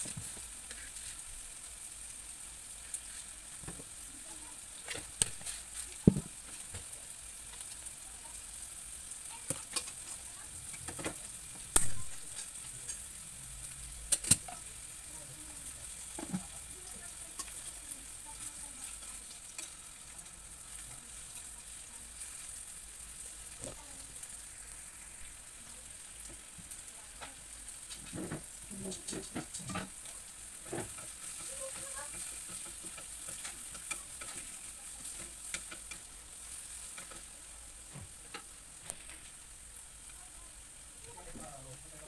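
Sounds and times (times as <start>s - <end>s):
meat sizzling in a frying pan: 0.0s - 42.0s.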